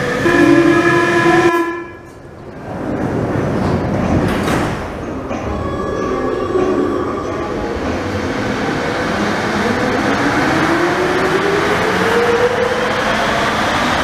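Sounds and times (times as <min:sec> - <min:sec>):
metro train passing: 0:00.0 - 0:14.0
metro train whine in tunnel: 0:00.0 - 0:14.0.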